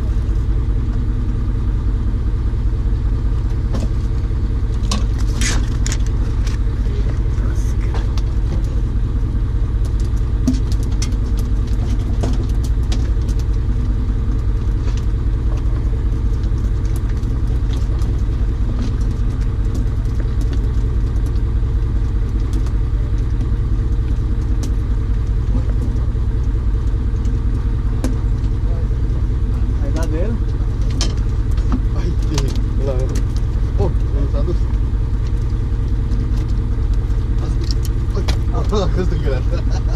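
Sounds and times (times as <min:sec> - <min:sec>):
low pulsing engine rumble: 0:00.0 - 0:39.9.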